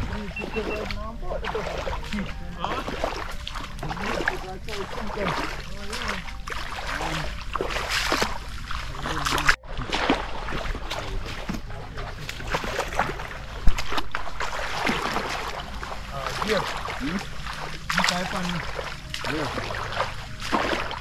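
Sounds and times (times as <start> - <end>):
water sloshing and splashing: 0.0 - 21.0.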